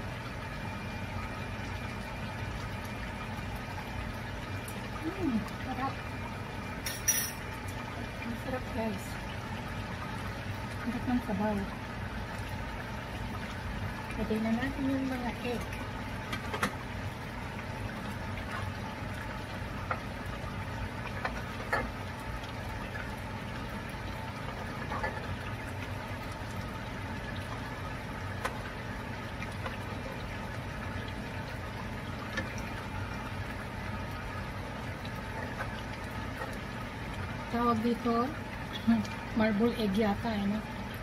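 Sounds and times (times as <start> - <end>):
sauce simmering and bubbling: 0.0 - 41.0.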